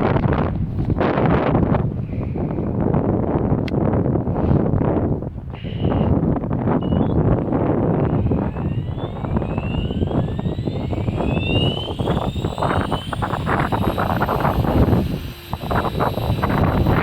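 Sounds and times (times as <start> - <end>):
light aircraft engine: 0.0 - 17.0
wind buffeting microphone: 0.0 - 17.0.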